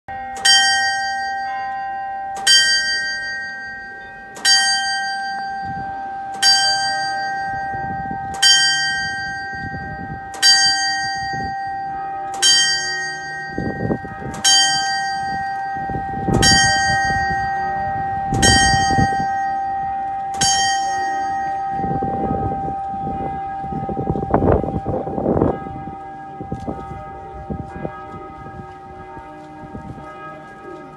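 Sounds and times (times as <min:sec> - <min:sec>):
clock bell striking: 0:00.1 - 0:30.9
low noise: 0:00.1 - 0:30.9.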